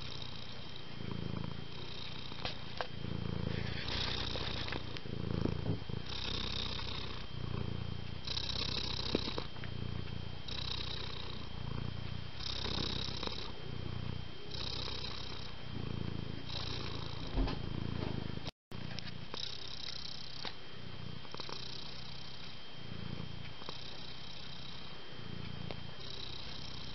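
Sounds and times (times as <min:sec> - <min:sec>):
cat purring: 0:00.0 - 0:26.9.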